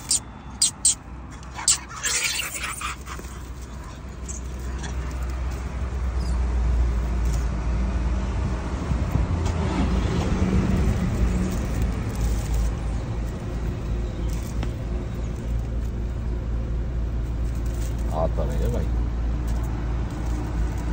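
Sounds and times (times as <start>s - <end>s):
vehicle engine humming: 0.0s - 20.9s.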